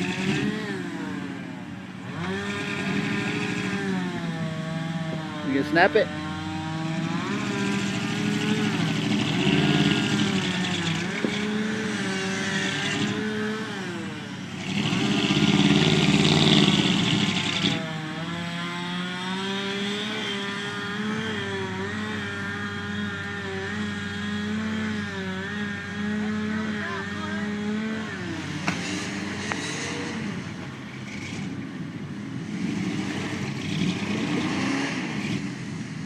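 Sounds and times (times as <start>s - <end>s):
truck engine revving hard: 0.0s - 36.0s.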